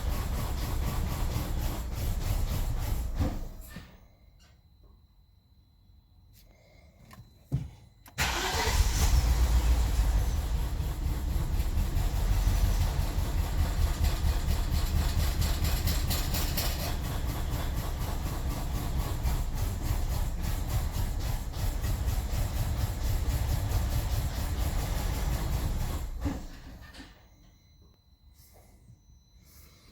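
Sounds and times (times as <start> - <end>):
car engine running with misfires: 0.0 - 4.0, 7.1 - 27.2.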